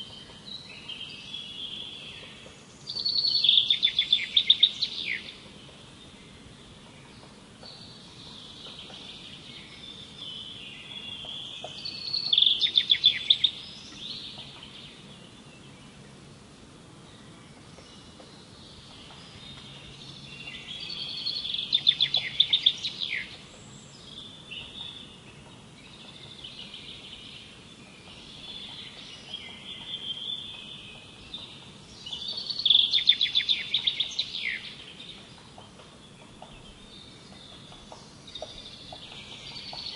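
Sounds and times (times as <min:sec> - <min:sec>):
songbird twittering: 0:00.0 - 0:16.2, 0:17.1 - 0:39.9
songbird trilling song: 0:00.0 - 0:16.3, 0:17.0 - 0:39.9.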